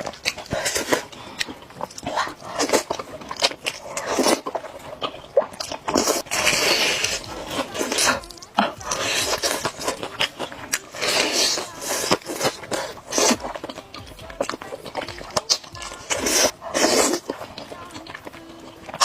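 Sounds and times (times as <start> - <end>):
biting food: 0.0 - 19.0
crunchy chewing: 0.0 - 19.0.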